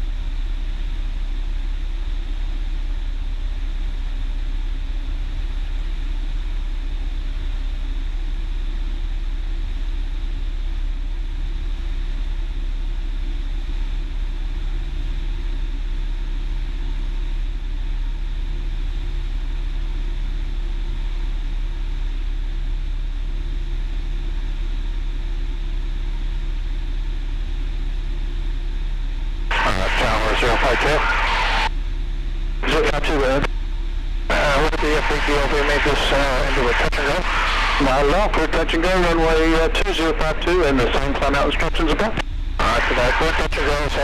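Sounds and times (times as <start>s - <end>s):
aircraft engine droning in cabin: 0.0s - 44.0s.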